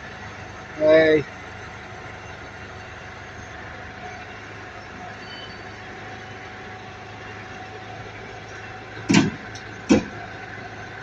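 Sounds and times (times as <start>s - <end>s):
forklift engine humming: 0.0s - 11.0s.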